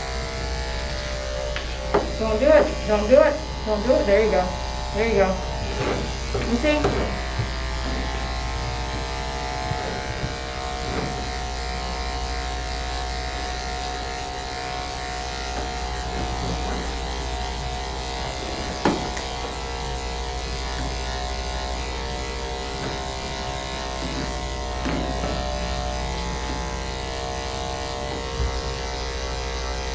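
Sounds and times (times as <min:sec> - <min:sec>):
electric clippers humming: 0:00.0 - 0:29.9.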